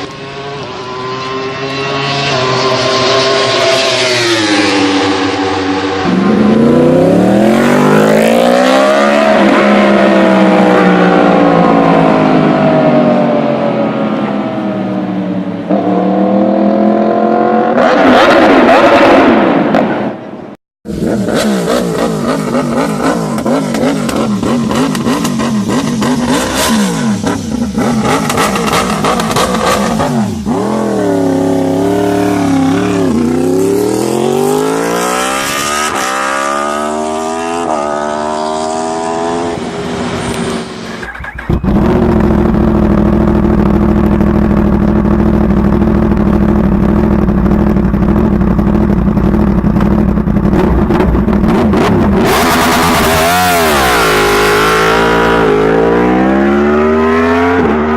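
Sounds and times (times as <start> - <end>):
motorcycle engine revving: 0.0 - 15.0, 20.9 - 57.9.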